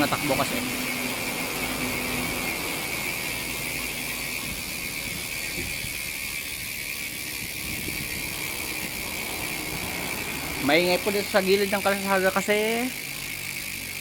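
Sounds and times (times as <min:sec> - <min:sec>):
bicycle hub ratchet clicking: 0:00.0 - 0:14.0.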